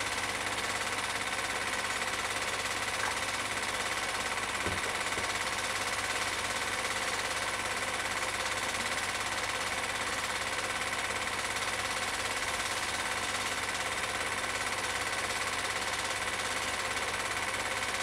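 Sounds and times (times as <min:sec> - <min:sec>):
film projector clattering: 0:00.1 - 0:18.0.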